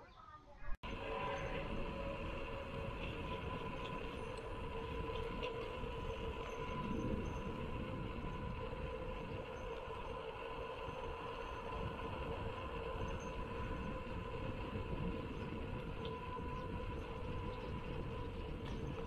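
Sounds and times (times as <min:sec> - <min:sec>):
bike tyre hum on concrete: 0:00.8 - 0:19.0
wind rumble on microphone: 0:00.8 - 0:19.0.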